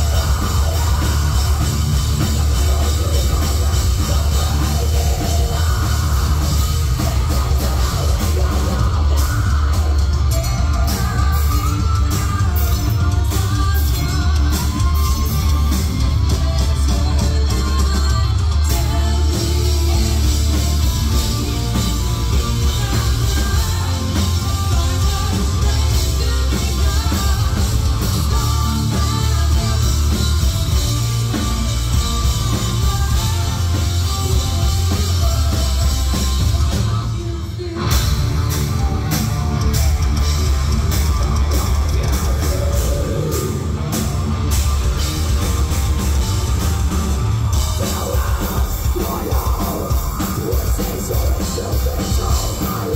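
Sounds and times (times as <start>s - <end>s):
heavy metal band playing: 0.0s - 52.9s
woman singing lead: 0.0s - 52.9s.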